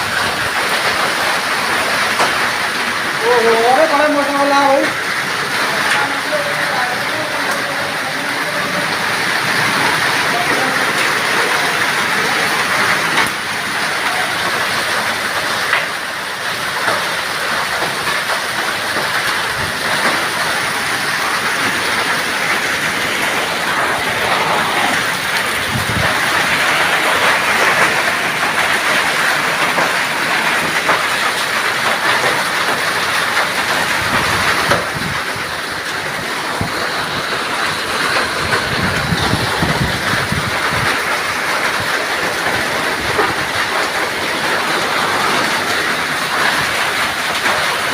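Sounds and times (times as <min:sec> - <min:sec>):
heavy rain and hail pelting: 0:00.0 - 0:47.9.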